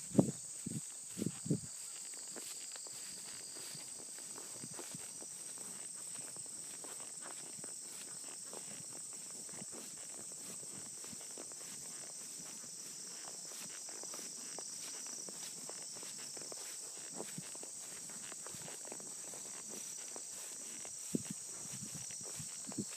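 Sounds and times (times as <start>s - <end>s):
high-pitched insect chorus: 0.0s - 22.9s
horse hooves on grass: 0.0s - 22.9s.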